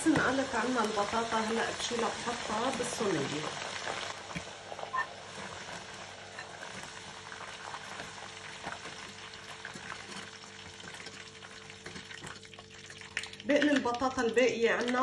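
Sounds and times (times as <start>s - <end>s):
potatoes sizzling in hot oil: 0.0s - 15.0s.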